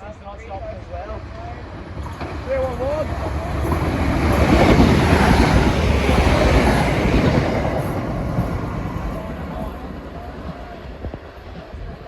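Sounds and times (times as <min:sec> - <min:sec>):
passenger train passing at speed: 0:00.0 - 0:12.0.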